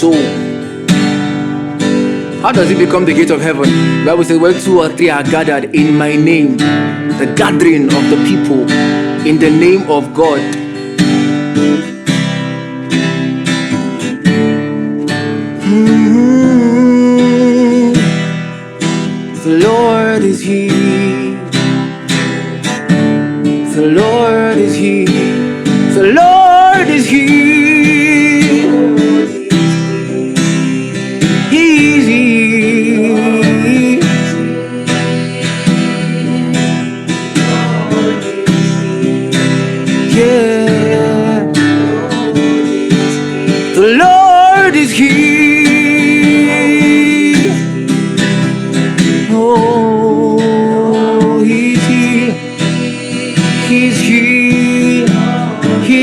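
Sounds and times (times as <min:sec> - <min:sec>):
strummed guitar chords: 0:00.0 - 0:56.0.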